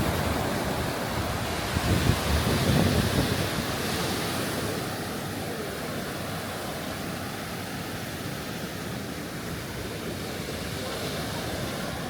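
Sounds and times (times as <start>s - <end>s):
surf and wind rushing: 0.0s - 12.0s.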